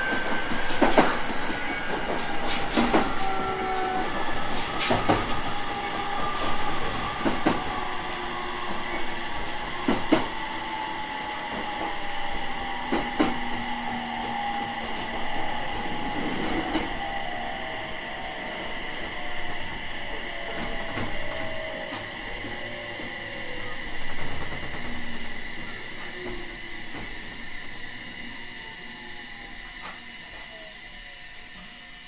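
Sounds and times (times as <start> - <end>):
electric train motor whine: 0.0 - 32.0.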